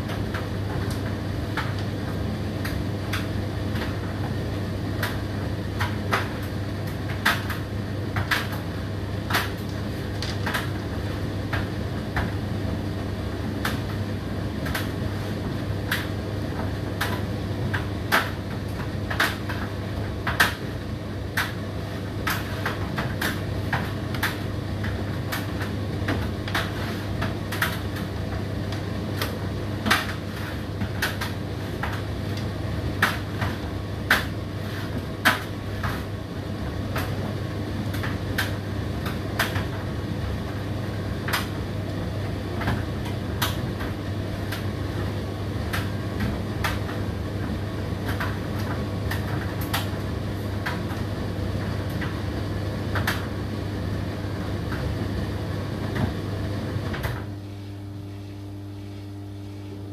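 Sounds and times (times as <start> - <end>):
tumble dryer motor hum: 0.0 - 59.9.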